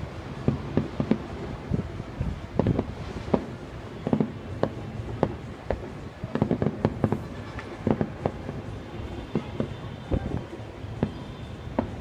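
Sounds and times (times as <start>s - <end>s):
fireworks bangs and pops: 0.3s - 12.0s.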